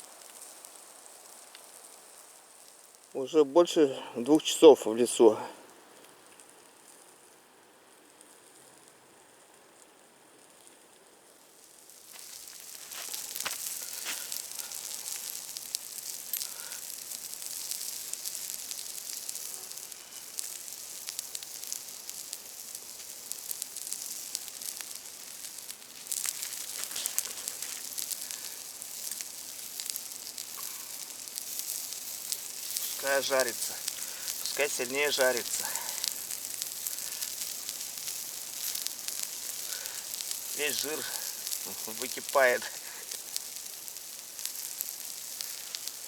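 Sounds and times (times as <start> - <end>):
fire popping and crackling: 0.0 - 3.2, 5.9 - 46.0
meat sizzling over campfire: 0.0 - 46.0.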